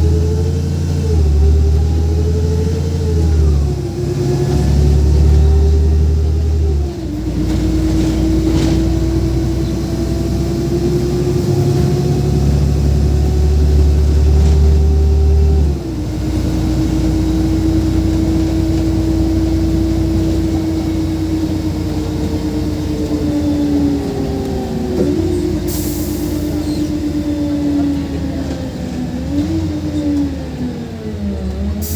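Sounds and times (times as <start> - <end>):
bus engine rumble and whine: 0.0 - 31.9.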